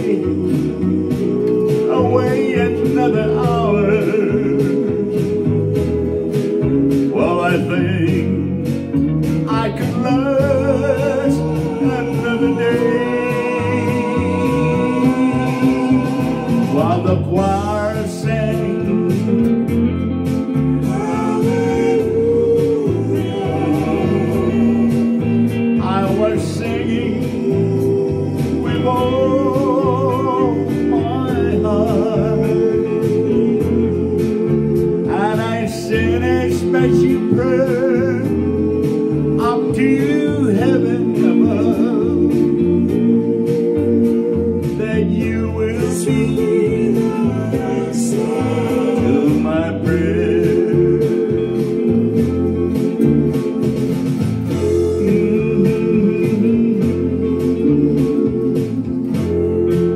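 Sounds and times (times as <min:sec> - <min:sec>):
man singing slow love song: 0:00.0 - 0:08.7, 0:09.4 - 0:19.2, 0:20.9 - 0:34.4, 0:35.0 - 0:42.6, 0:44.7 - 0:52.4, 0:54.5 - 0:58.2.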